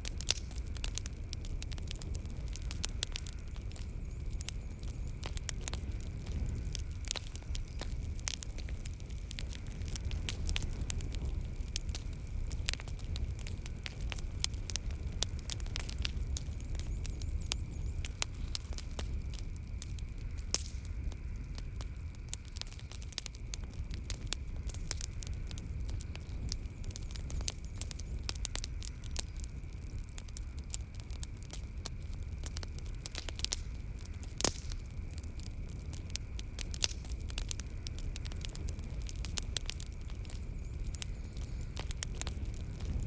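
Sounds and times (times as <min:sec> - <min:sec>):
low fire rumble: 0:00.0 - 0:43.0
wood fire popping and snapping: 0:00.0 - 0:43.0.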